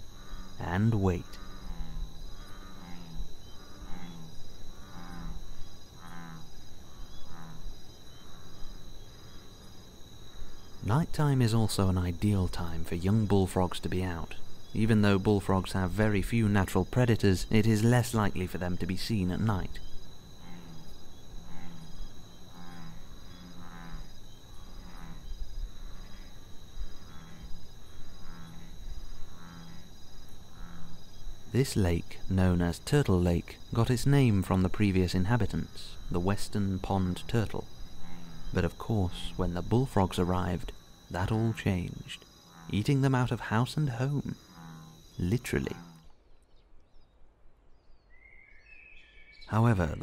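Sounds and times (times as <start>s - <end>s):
frog calling: 0.0s - 46.3s
crickets chirping: 0.0s - 50.0s
insects trilling: 0.0s - 50.0s.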